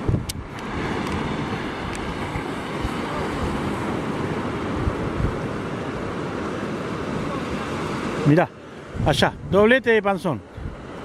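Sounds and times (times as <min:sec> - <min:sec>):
wind buffeting microphone: 0:00.0 - 0:08.2, 0:08.9 - 0:09.8, 0:10.5 - 0:11.0
surf breaking on beach: 0:00.0 - 0:11.0.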